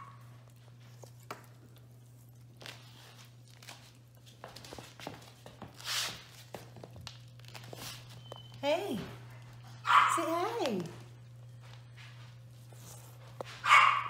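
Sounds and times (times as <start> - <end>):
low steady hum: 0.0 - 14.0
puppy feet on wooden floor: 0.0 - 14.0.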